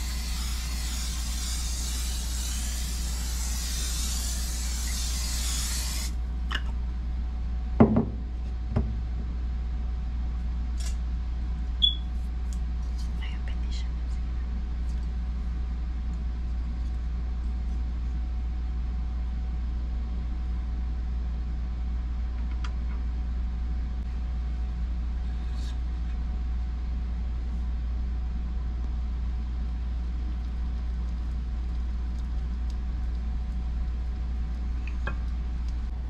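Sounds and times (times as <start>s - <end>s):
motor rumble and hum: 0.0s - 36.0s.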